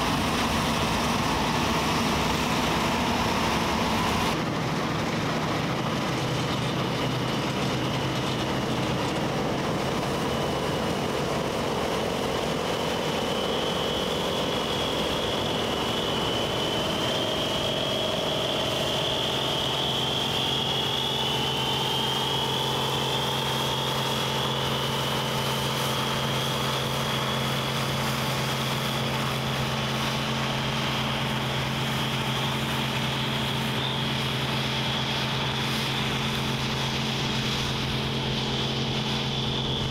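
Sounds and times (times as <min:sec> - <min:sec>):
combine harvester engine drone: 0:00.0 - 0:39.9
high machine whine: 0:00.0 - 0:39.9.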